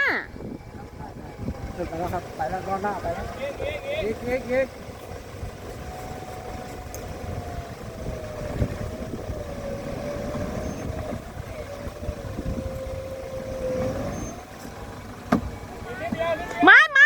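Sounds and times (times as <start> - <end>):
engine running under load: 0.0 - 17.0
engine whine: 0.0 - 17.0.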